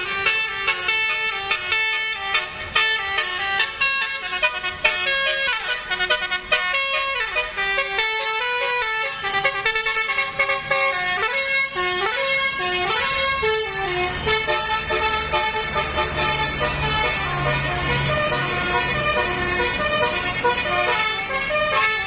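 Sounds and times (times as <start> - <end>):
musical air horn melody: 0.0 - 22.0.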